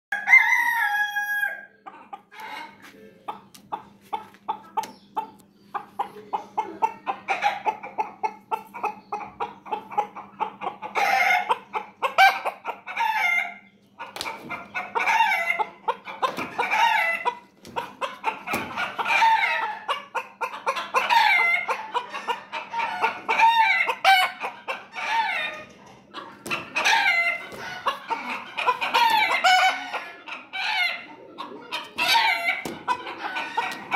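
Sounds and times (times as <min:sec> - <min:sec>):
chickens clucking: 0:00.2 - 0:33.9.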